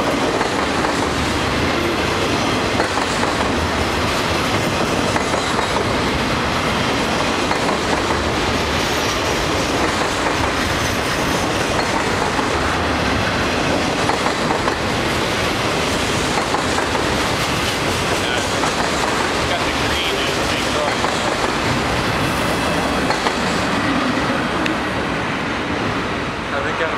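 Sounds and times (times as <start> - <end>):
freight train wheels on rails: 0.0 - 26.9.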